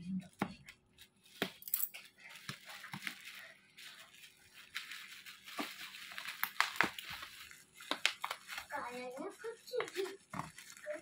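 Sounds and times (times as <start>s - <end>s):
plastic wrapping crinkling: 0.3s - 11.0s.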